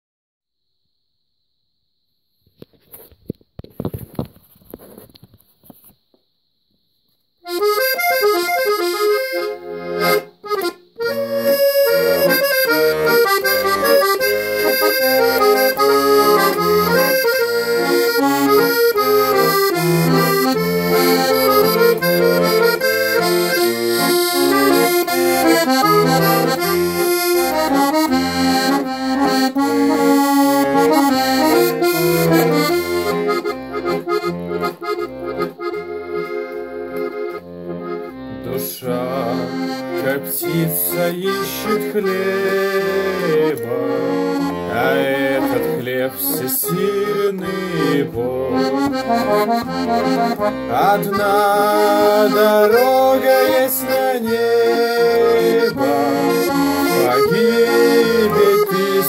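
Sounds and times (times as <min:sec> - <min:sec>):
accordion playing hymn: 0:07.4 - 0:59.0.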